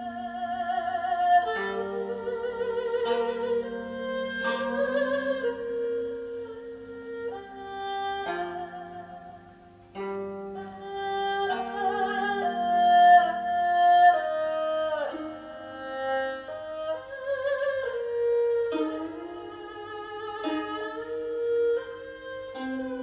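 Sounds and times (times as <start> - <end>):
bowed string melody: 0.0 - 23.0.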